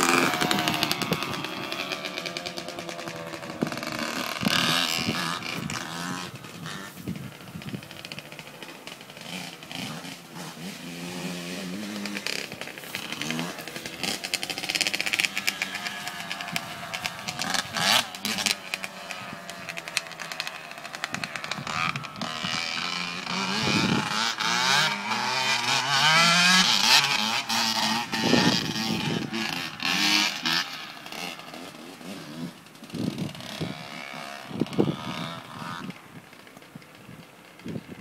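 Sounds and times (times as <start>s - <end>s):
distant dirt bike engines revving: 0.0s - 38.0s.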